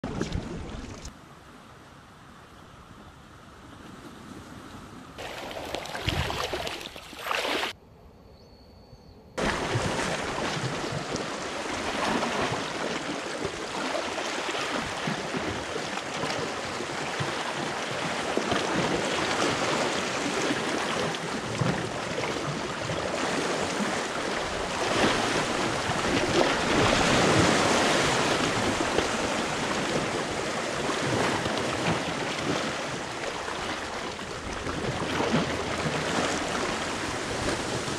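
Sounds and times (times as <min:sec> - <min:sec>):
sea waves splashing over rocks: 0:05.2 - 0:07.7, 0:09.4 - 0:37.9.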